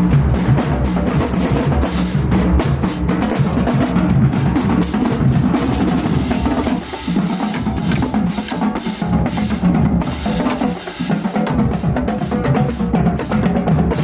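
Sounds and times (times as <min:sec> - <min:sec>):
snare and bass drums beating: 0:00.0 - 0:14.0.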